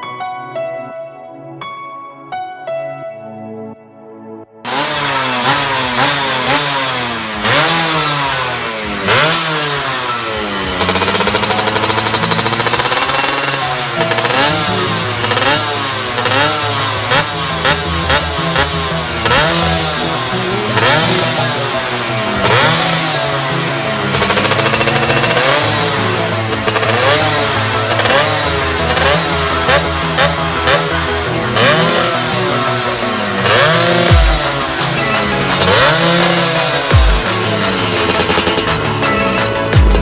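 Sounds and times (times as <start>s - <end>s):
motorcycle engine revving: 4.7s - 40.0s.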